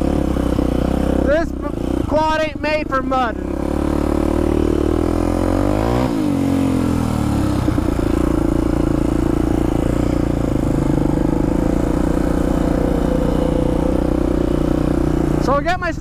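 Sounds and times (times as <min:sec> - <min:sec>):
quad engine running: 0:00.0 - 0:16.0.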